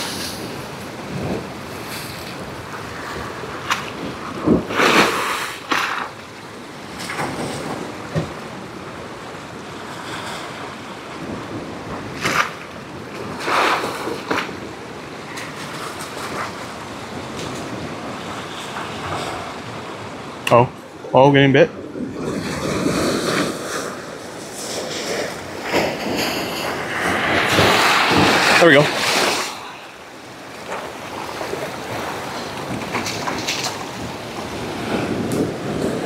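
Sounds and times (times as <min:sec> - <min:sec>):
surf breaking on rocks: 0:00.0 - 0:20.7, 0:21.3 - 0:36.0
wind buffeting microphone: 0:00.0 - 0:36.0.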